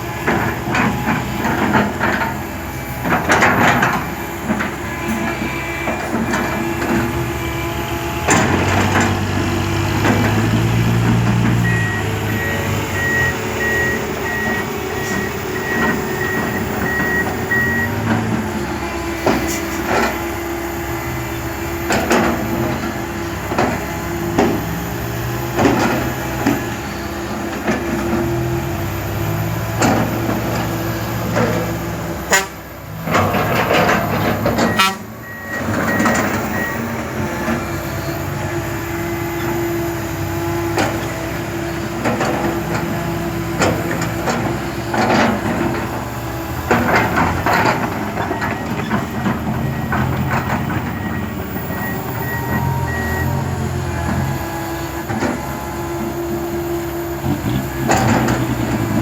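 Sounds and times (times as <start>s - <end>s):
diesel engine running under load: 0.0s - 59.0s
metallic clanks of bucket and tracks: 0.0s - 59.0s.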